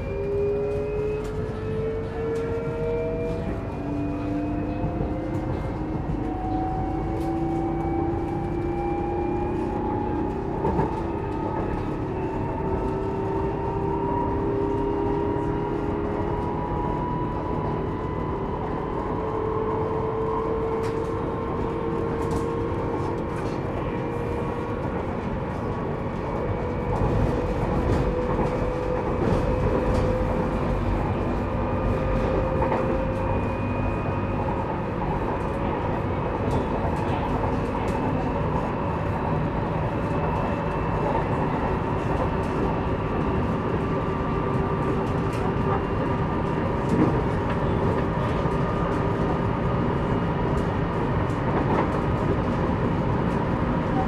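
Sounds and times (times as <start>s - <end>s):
train running gear rumble: 0.0s - 54.0s
train traction motor whine: 0.0s - 54.0s.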